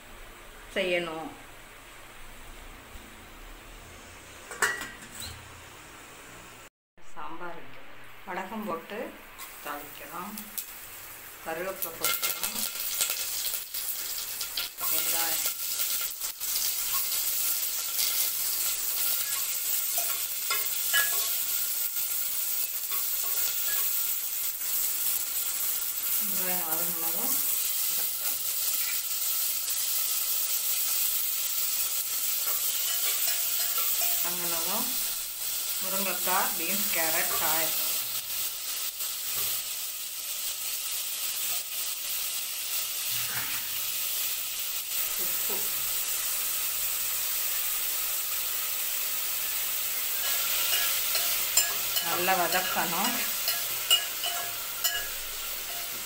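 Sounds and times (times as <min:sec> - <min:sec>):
onions sizzling in hot oil: 0:08.3 - 0:56.0.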